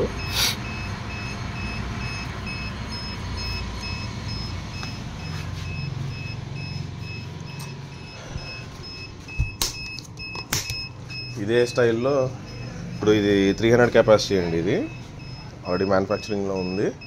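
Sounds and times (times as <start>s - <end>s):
high electronic beeps: 0.0s - 17.0s.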